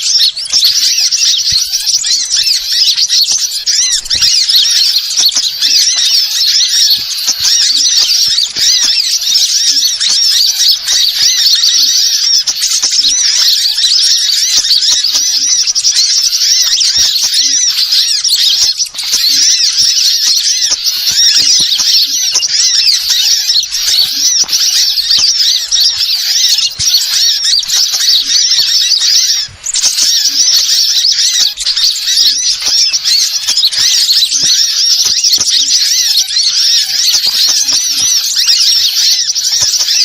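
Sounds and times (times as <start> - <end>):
small birds twittering: 0.0 - 40.0.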